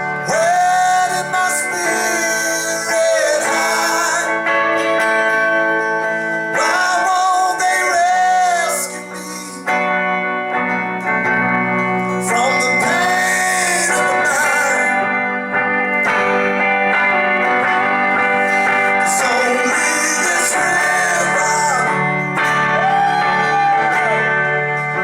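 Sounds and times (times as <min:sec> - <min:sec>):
band playing acoustic guitars: 0:00.0 - 0:25.0.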